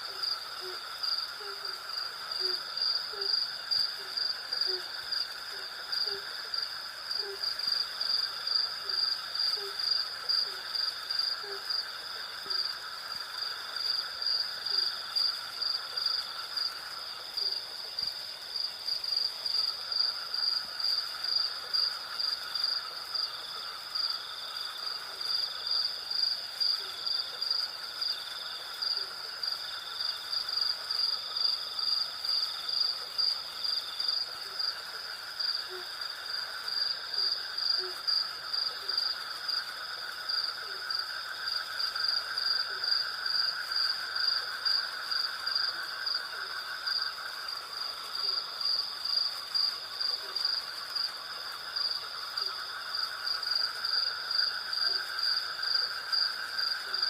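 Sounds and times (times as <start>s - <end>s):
crickets trilling: 0.0s - 57.0s
low insect drone: 0.0s - 57.0s.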